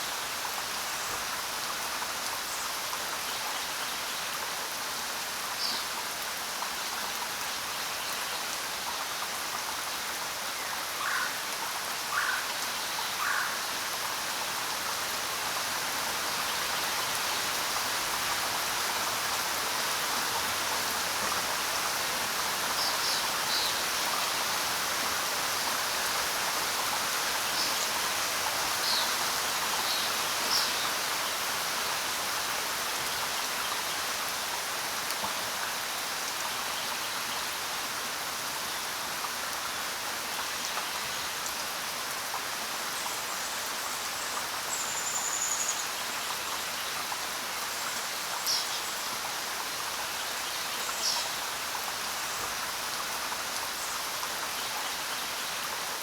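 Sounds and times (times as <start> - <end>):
rain falling on ground: 0.0 - 56.0.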